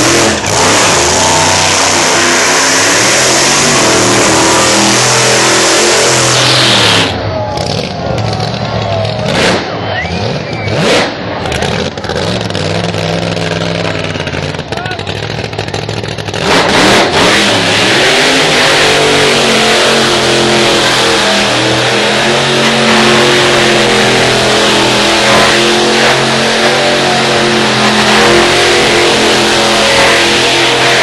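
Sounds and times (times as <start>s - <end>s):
supercharged engine revving hard: 0.0s - 31.0s.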